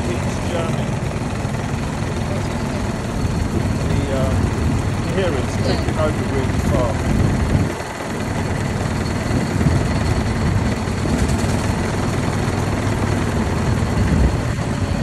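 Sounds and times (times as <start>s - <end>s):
car engine idling: 0.0s - 15.0s
city traffic: 0.0s - 15.0s.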